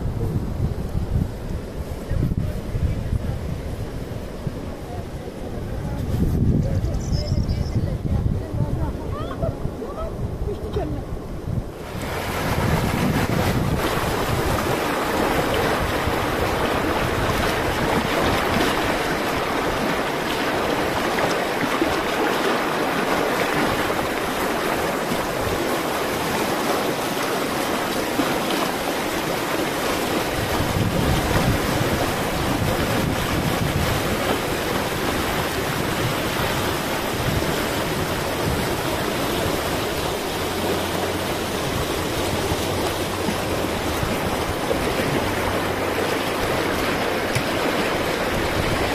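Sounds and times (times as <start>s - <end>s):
river rushing over rapids: 8.1s - 48.9s.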